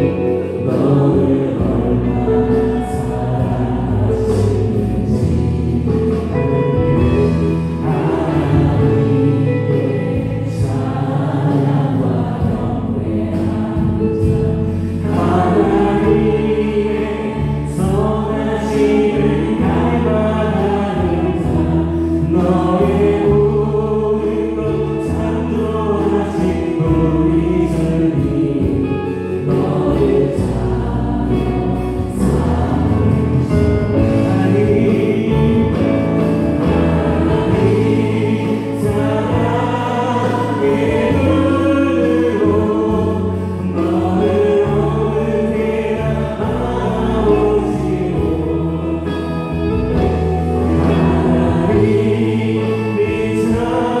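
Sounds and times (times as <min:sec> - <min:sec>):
drums: 0:00.0 - 0:54.0
electric bass: 0:00.0 - 0:54.0
keyboard: 0:00.0 - 0:54.0
voices singing together: 0:00.0 - 0:54.0.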